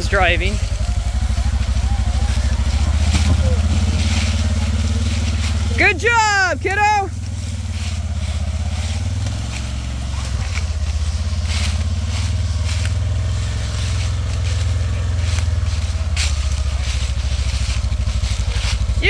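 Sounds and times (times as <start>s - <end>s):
dry leaves crackling: 0.0s - 19.0s
vehicle engine running: 0.0s - 19.0s.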